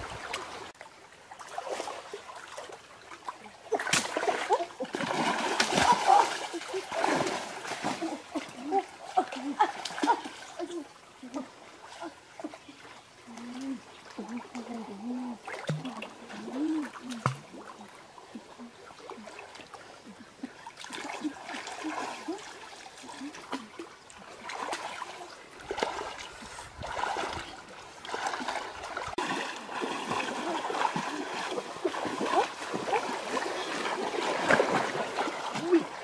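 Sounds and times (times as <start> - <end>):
water splashing and trickling: 0.0 - 36.0.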